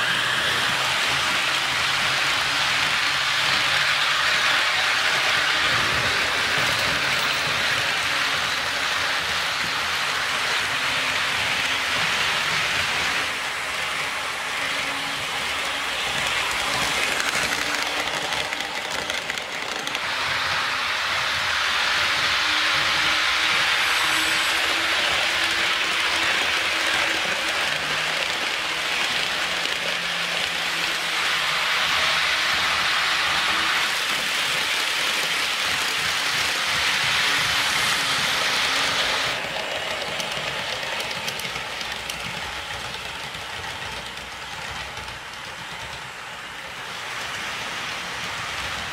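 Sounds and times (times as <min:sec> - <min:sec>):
model train wheels hissing: 0:00.0 - 0:48.9.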